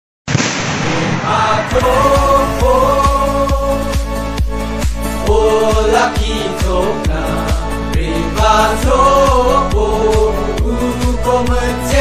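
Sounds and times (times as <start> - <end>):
choir-like voices: 0.9 - 4.4, 5.1 - 12.0.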